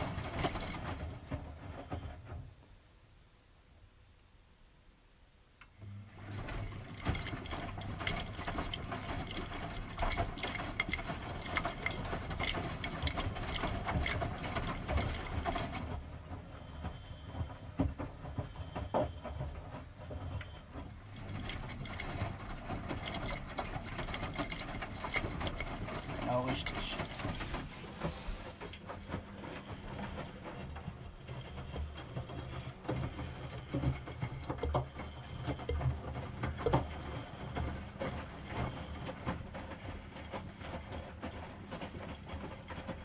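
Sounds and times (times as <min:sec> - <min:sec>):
washing machine motor hum: 0:00.0 - 0:02.6, 0:05.6 - 0:43.0
laundry sloshing and thudding: 0:06.2 - 0:43.0.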